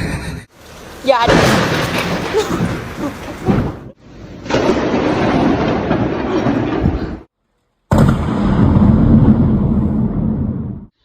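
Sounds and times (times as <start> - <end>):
thunder rumbling: 0.9 - 7.3, 7.9 - 10.9.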